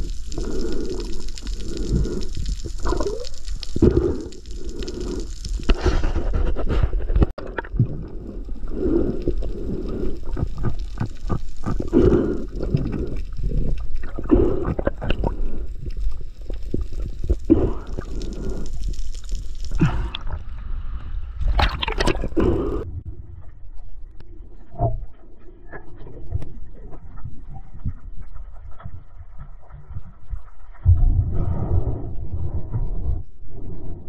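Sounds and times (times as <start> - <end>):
water gurgling and sloshing: 0.0 - 34.0.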